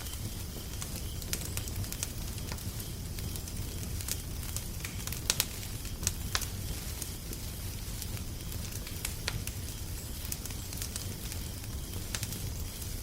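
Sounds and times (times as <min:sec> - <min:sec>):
low rumble of fire: 0:00.0 - 0:13.0
wood fire crackling: 0:00.2 - 0:13.0.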